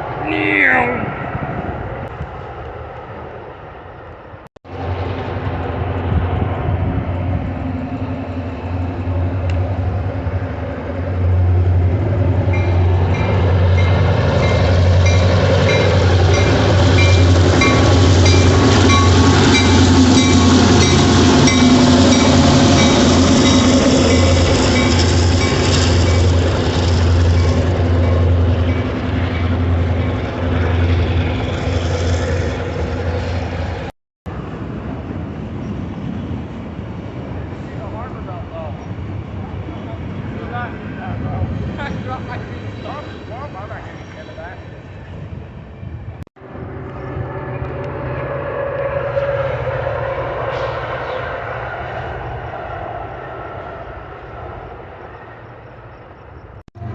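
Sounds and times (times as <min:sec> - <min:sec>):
diesel train rumble: 0:00.0 - 0:56.9.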